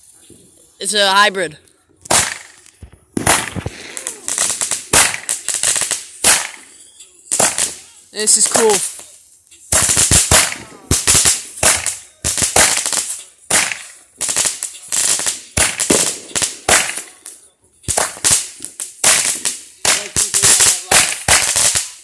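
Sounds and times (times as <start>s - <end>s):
fireworks shots and pops: 2.0s - 22.0s
fireworks hissing spray: 2.4s - 22.0s.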